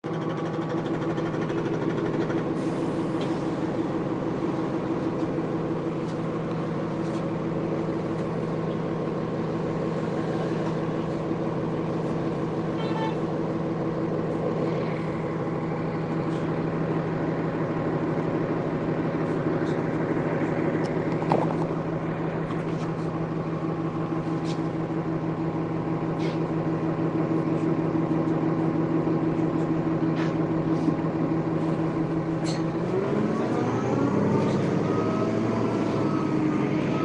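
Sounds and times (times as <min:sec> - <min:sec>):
bus diesel engine running: 0:00.0 - 0:37.0.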